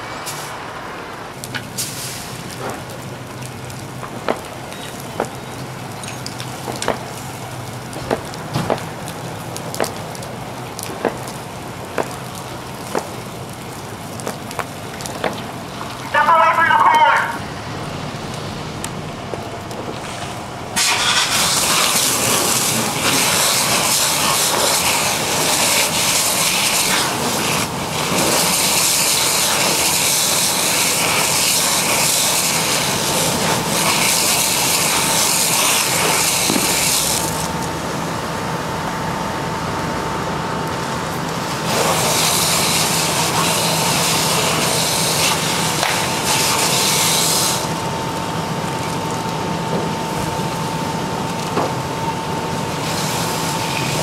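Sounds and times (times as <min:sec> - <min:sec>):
engine hum: 0:00.0 - 0:54.0
hissing water spray and steam: 0:00.1 - 0:19.1, 0:19.9 - 0:38.6, 0:39.3 - 0:54.0.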